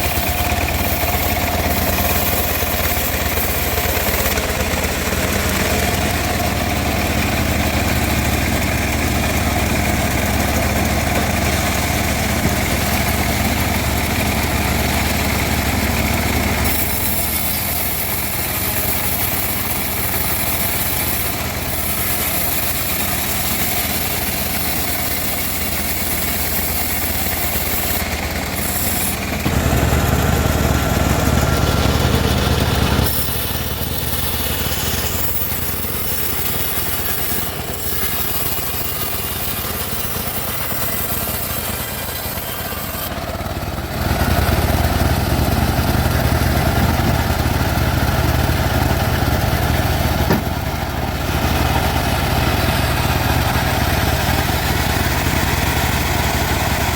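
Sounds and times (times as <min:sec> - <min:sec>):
band sawmill sawing wood: 0:00.0 - 0:56.9.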